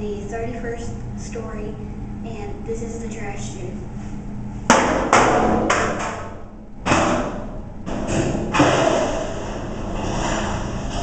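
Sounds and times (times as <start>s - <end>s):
echoing rumble from shaft: 0.0s - 11.0s.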